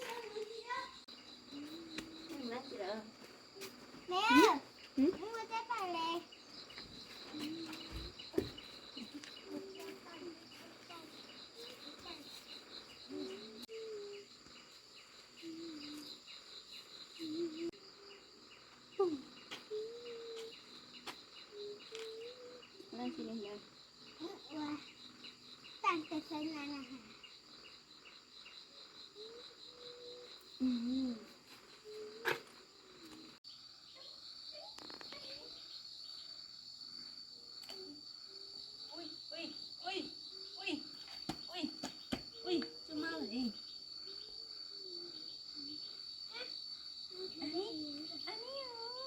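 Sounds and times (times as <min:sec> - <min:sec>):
insect chorus trilling: 0:00.0 - 0:49.0.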